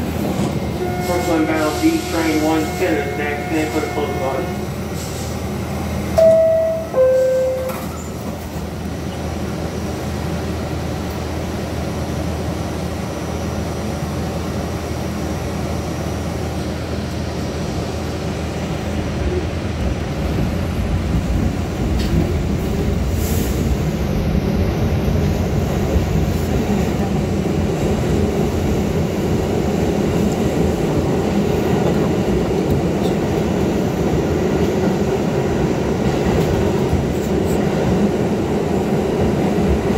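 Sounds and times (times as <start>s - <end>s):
passing train on adjacent track: 0.0s - 39.9s
subway wheels rumbling on rail: 0.0s - 39.9s.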